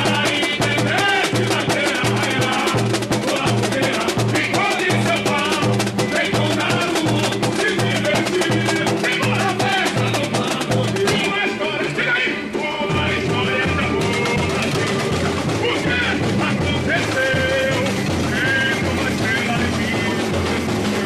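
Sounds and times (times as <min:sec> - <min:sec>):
shakers and small drums rattling: 0:00.0 - 0:11.9, 0:12.9 - 0:21.0
bass drum beat: 0:00.0 - 0:12.1, 0:12.8 - 0:21.0
person singing through microphone: 0:00.0 - 0:21.0.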